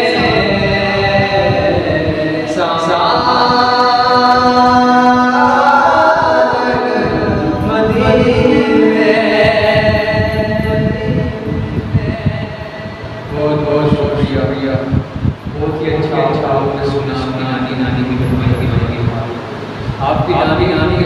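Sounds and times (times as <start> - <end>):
man singing unaccompanied: 0.0 - 18.9.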